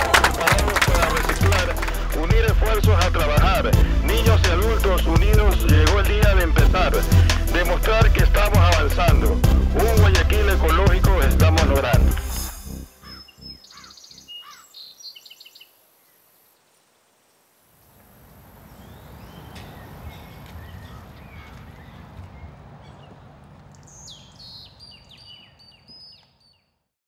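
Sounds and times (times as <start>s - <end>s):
birds chirping: 0.0s - 12.1s, 12.9s - 16.7s, 18.3s - 26.8s.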